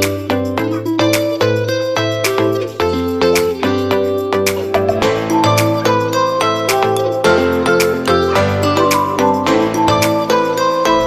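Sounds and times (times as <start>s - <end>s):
instrumental music with beat: 0.0s - 11.0s.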